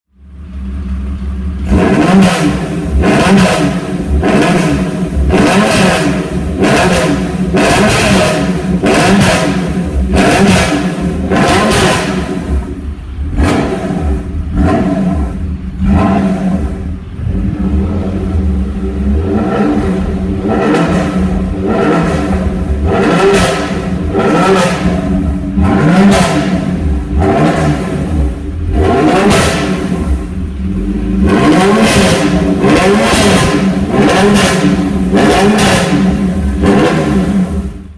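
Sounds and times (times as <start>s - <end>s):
car exhaust engine revving: 0.5s - 37.9s.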